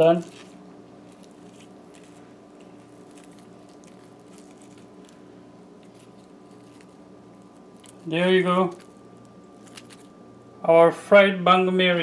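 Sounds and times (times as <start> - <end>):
crackling of fried fish and paper: 0.0 - 10.2
steady low hum: 0.0 - 12.0.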